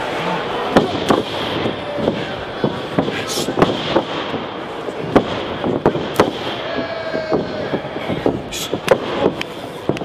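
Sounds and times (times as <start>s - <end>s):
crowd noise: 0.0s - 10.0s.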